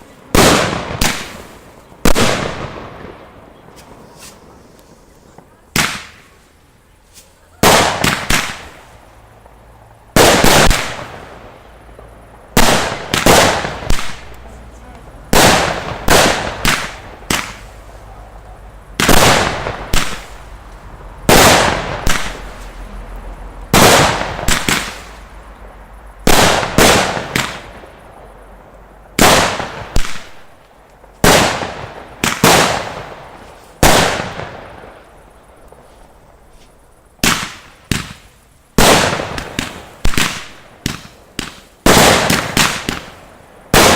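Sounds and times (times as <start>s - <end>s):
fireworks bursting with loud bangs: 0.0s - 43.9s.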